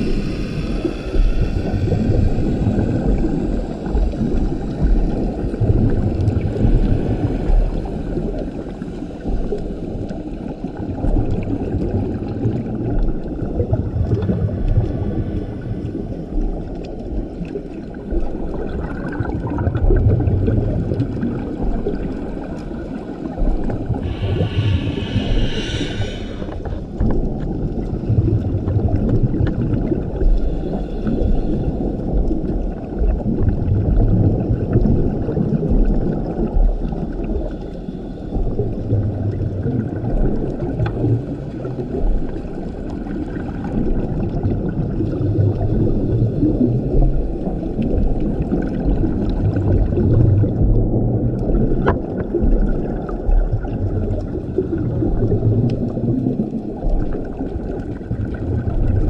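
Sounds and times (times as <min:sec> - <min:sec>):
exhaled bubbles underwater: 0:00.0 - 0:59.0
sea wash: 0:00.0 - 0:59.0.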